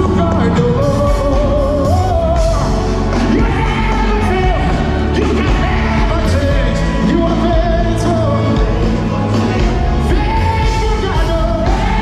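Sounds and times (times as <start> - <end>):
heavy bass: 0.0 - 12.0
person singing: 0.0 - 12.0
worship band over loudspeakers: 0.0 - 12.0.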